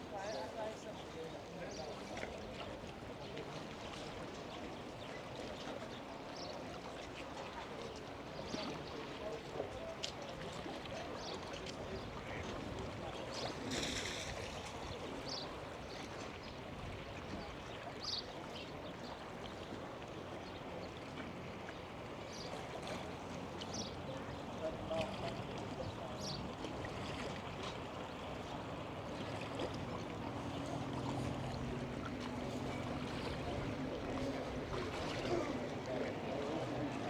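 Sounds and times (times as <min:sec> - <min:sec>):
faint voices: 0:00.0 - 0:37.0
water lapping: 0:00.0 - 0:37.0.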